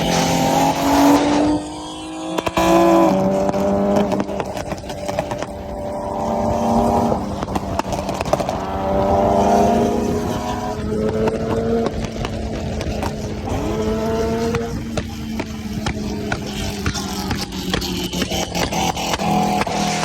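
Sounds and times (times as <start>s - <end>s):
car engine revving: 0.0s - 20.0s
exhaust pops and cracks: 0.0s - 20.0s.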